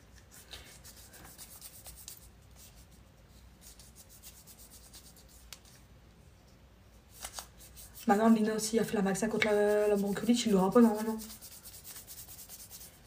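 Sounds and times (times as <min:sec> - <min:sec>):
low steady hum: 0:00.0 - 0:13.0
faint rubbing noise: 0:00.2 - 0:05.9, 0:06.9 - 0:13.0.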